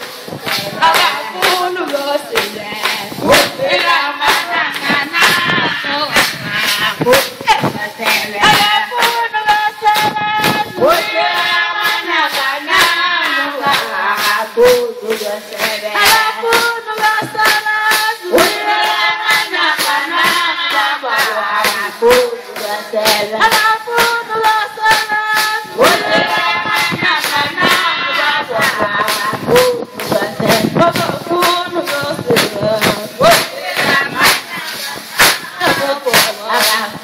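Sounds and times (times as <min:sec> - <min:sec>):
drum beat: 0:00.0 - 0:37.0
lead singing voice: 0:00.0 - 0:37.0
women singing together: 0:00.0 - 0:37.0.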